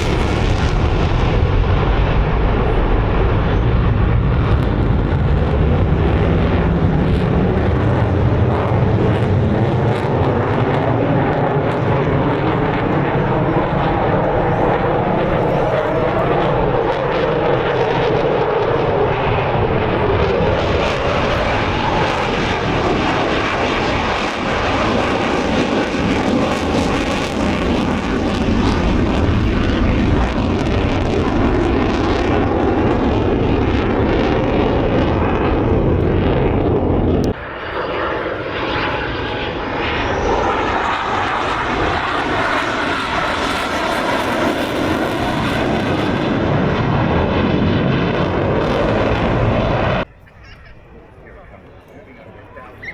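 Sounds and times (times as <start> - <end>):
high jet whine: 0.0 - 52.9
jet aircraft roaring overhead: 0.0 - 52.9.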